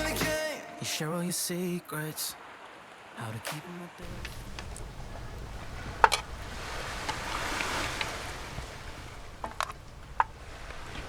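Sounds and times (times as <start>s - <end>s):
waves washing onto beach: 1.6s - 11.0s.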